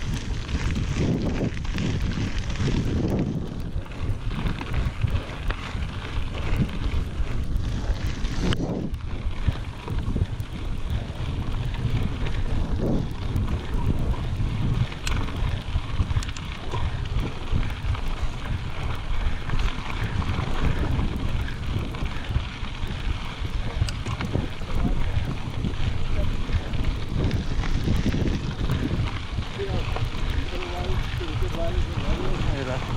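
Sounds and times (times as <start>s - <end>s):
bike rattling clicks: 0.0s - 32.9s
bike tyres rumbling on dirt: 0.0s - 32.9s
wind buffeting microphone: 0.0s - 32.9s.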